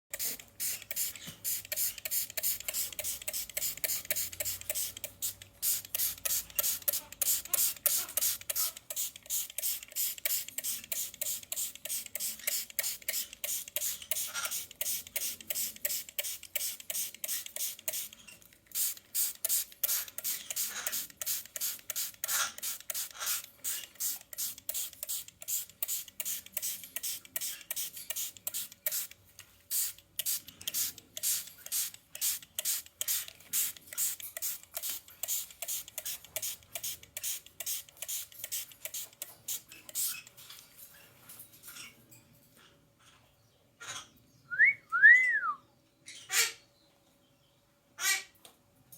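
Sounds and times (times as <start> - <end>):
spray bottle squirting: 0.1 - 40.3.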